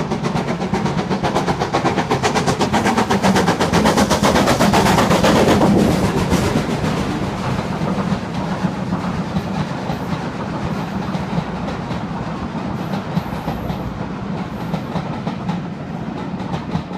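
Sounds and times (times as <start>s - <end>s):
train coaches rumbling past: 0.0s - 16.9s
wheels clicking over track: 0.0s - 16.9s.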